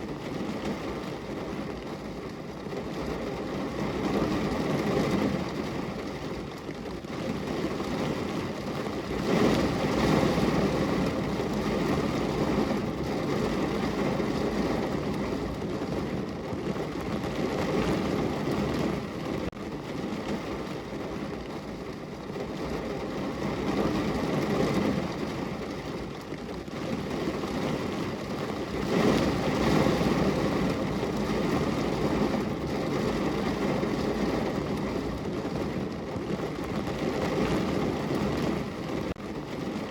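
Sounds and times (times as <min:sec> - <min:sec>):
rain on car roof and windows: 0:00.0 - 0:39.9.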